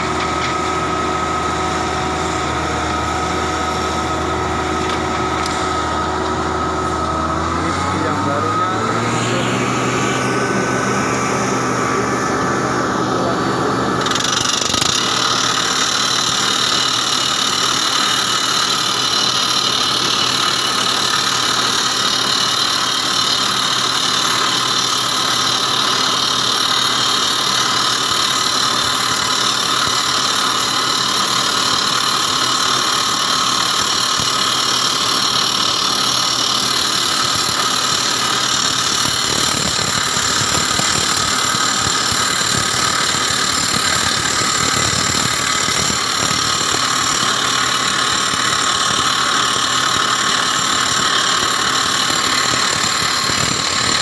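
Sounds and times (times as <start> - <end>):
rock drill rig drilling: 0.0 - 54.0.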